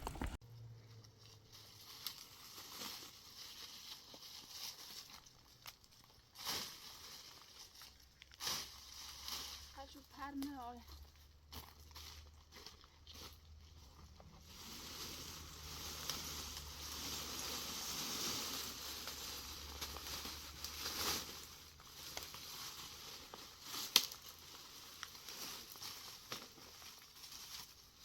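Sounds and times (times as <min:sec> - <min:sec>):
rustling crackling handling noise: 0:00.0 - 0:28.0.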